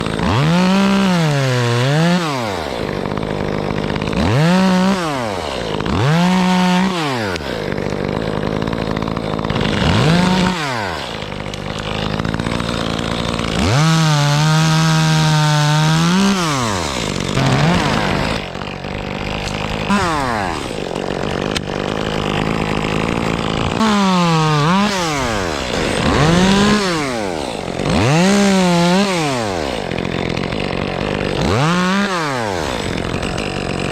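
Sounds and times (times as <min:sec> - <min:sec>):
chainsaw engine revving: 0:00.0 - 0:33.9.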